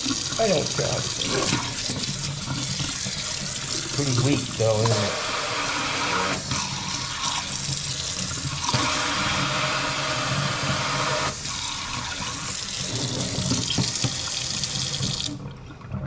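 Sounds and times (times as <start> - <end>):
water running into steel sink: 0.0 - 15.5.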